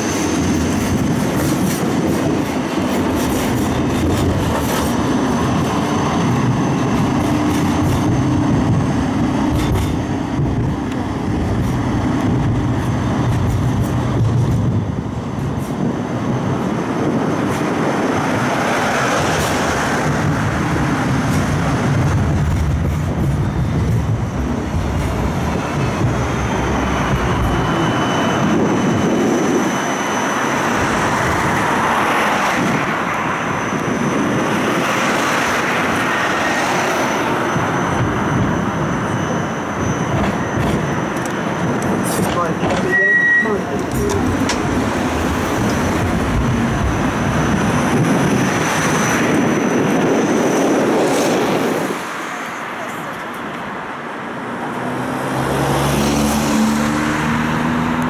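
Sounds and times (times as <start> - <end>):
tram wheels rumbling on rail: 0.0 - 58.0.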